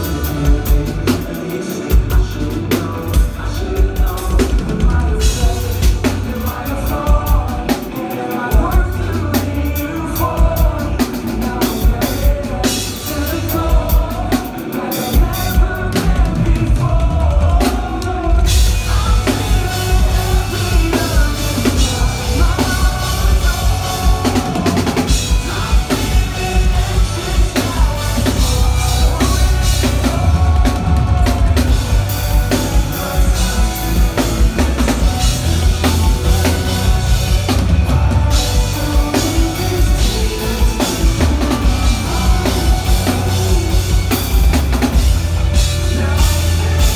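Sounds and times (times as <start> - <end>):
drum kit beat: 0.0 - 46.9
live rock band playing: 0.0 - 46.9.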